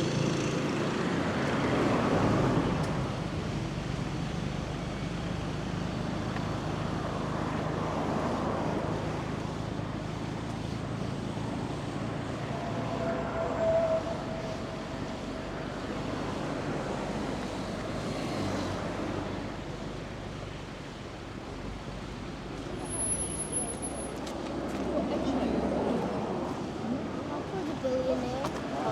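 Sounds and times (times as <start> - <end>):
vehicle engine humming: 0.0 - 28.9.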